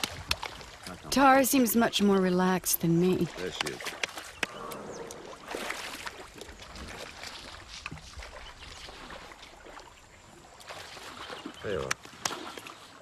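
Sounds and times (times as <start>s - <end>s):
water dripping: 0.0s - 13.0s
water splashing and sloshing: 0.0s - 13.0s.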